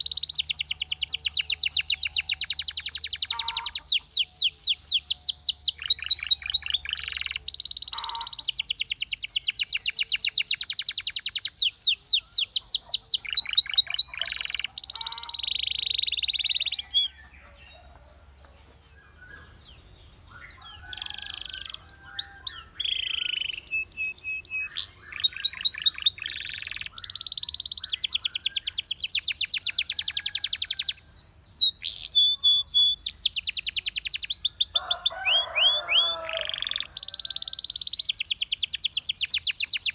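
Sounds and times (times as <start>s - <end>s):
canary singing trills: 0.0s - 18.1s, 18.8s - 39.9s.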